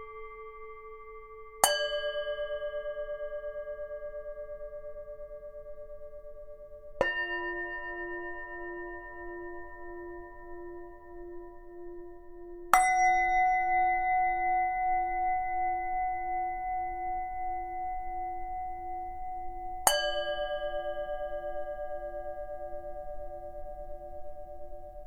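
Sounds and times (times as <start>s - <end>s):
low wavering bowl hum: 0.0s - 25.0s
singing bowl struck and ringing: 0.0s - 25.0s.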